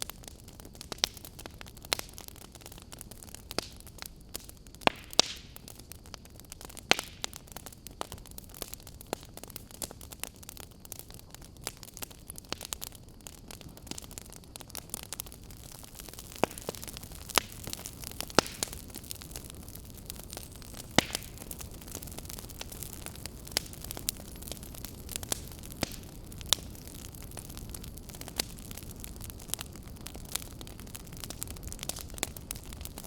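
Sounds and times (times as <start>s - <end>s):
fire low rumble: 0.0s - 33.0s
wood fire crackling and popping: 0.0s - 33.0s.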